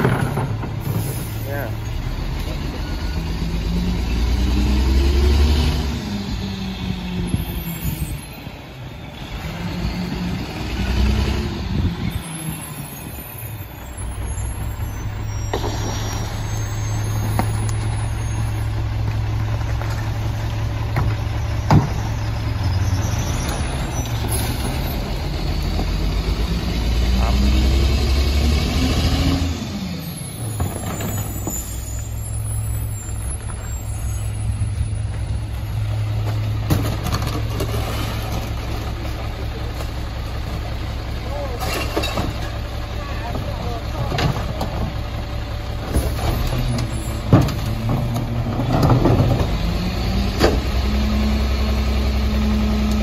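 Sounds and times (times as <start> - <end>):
diesel truck engine idling and revving: 0.0 - 53.0.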